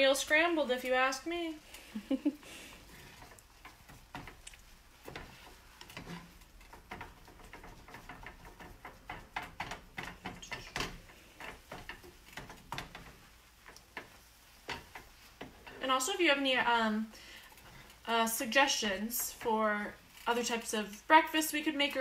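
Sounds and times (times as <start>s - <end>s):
spatula scraping frying pan: 0.0s - 22.0s.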